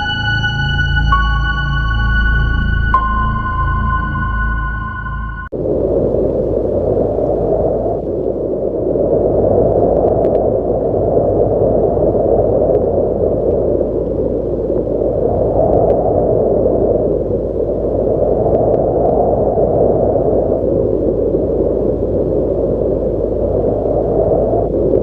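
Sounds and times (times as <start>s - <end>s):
strong wind blowing: 0.0s - 25.0s.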